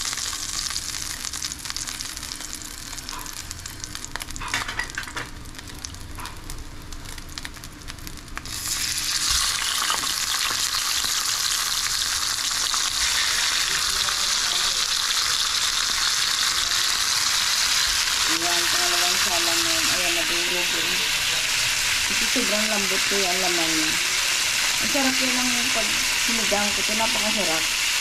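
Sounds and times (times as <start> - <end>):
fish sizzling in oil: 0.0 - 28.0
hot oil crackling: 0.0 - 28.0.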